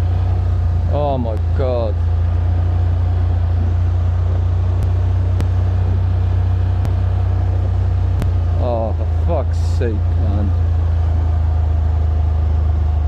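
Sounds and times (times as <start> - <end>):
faint steady whine: 0.0 - 13.0
low engine rumble: 0.0 - 13.0.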